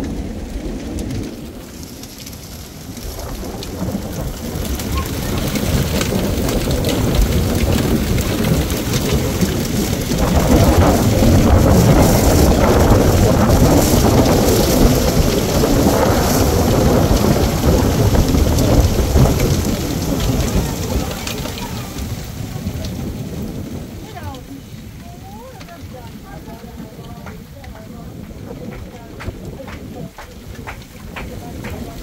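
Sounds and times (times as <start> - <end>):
heavy rain pouring: 0.0 - 32.0
thunder rumbling: 0.0 - 32.0.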